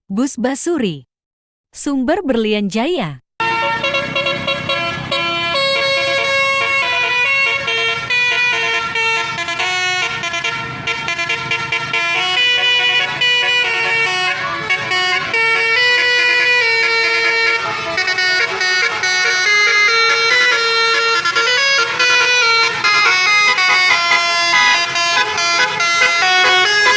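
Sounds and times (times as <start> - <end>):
multi-tone air horns playing melody: 3.4 - 26.9.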